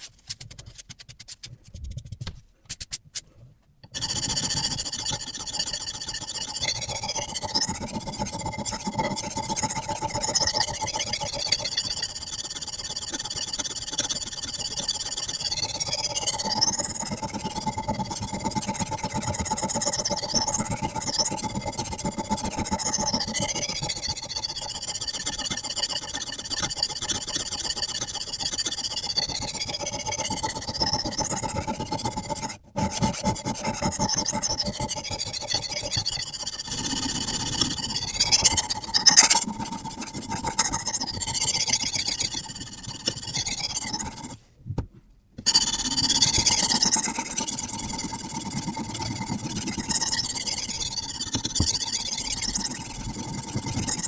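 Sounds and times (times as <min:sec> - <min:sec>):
sharpening stone rasping on blade: 0:03.9 - 0:44.4, 0:45.5 - 0:54.0.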